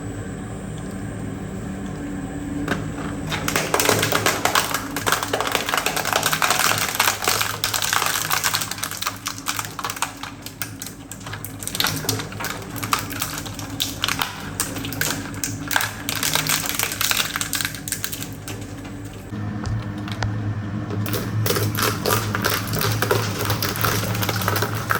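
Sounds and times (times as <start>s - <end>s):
shredder motor humming: 1.1s - 24.9s
material crunching and cracking: 3.1s - 20.3s, 21.1s - 24.9s.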